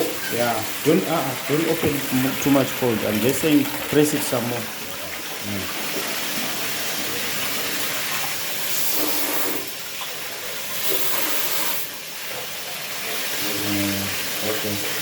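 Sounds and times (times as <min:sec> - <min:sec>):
air and water hissing from pipes: 0:00.0 - 0:15.0.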